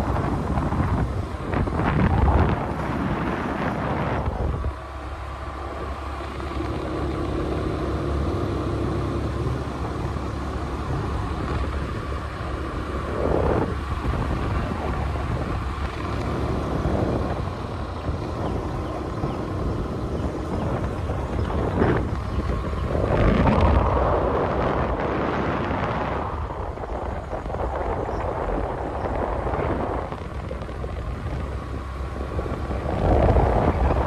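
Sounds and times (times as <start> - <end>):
scooter engine rumble: 0.0 - 34.0
wind on microphone: 0.0 - 34.0.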